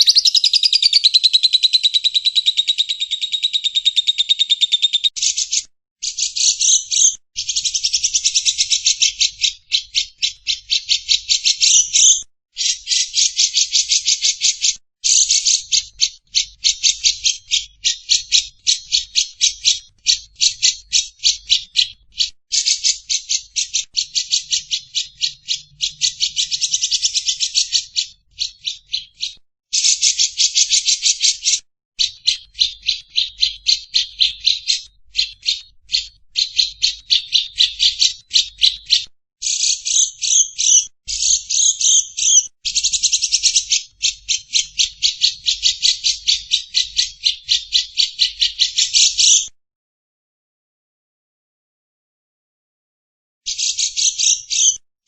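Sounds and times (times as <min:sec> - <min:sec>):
lovebird chattering song: 0:00.0 - 0:49.5, 0:53.5 - 0:54.8.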